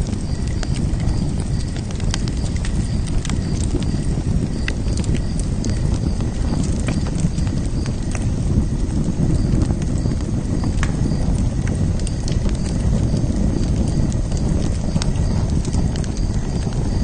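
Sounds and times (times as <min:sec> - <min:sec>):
fire crackles and pops: 0:00.0 - 0:17.0
fire rumbling: 0:00.0 - 0:17.0.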